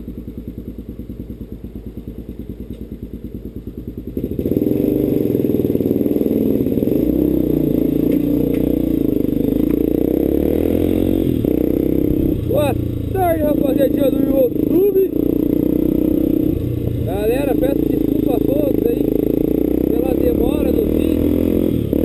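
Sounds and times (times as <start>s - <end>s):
motorcycle engine: 0.0s - 22.0s.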